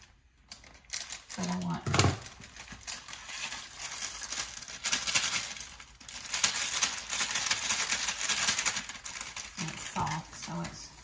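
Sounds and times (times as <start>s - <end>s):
packaging crinkling and crackling: 0.0s - 11.0s.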